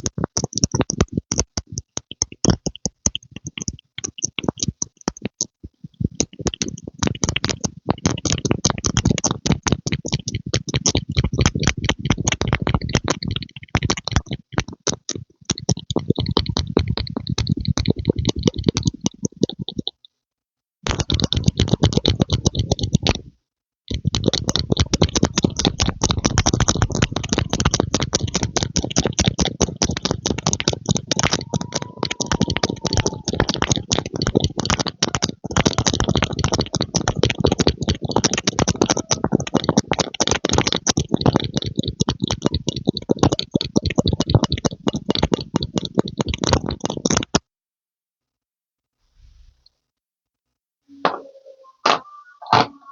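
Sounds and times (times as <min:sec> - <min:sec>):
rapid pumping clicks: 0:00.0 - 0:20.0, 0:20.8 - 0:23.3, 0:23.9 - 0:47.5.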